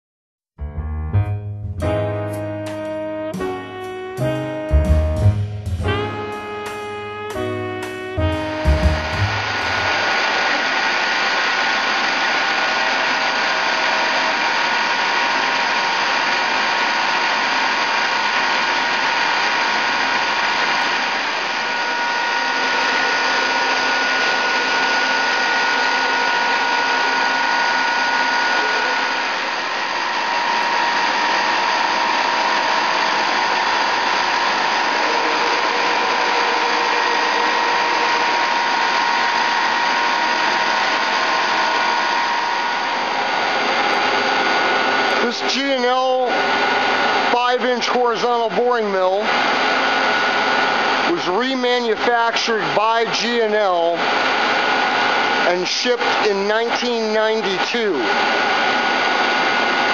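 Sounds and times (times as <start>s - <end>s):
high whining drive tones: 1.1s - 59.9s
boring mill hum and hiss: 1.8s - 59.9s.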